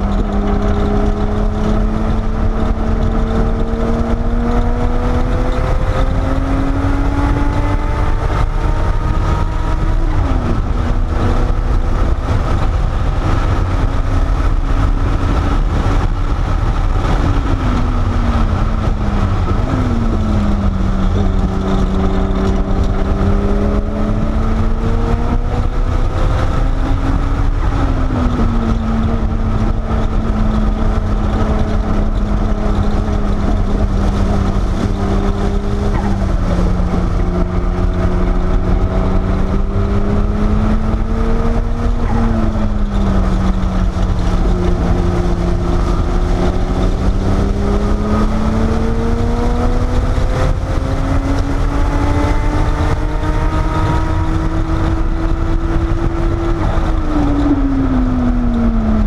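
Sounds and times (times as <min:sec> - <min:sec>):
car engine accelerating: 0:00.0 - 0:59.0
road and wind rumble: 0:00.0 - 0:59.0.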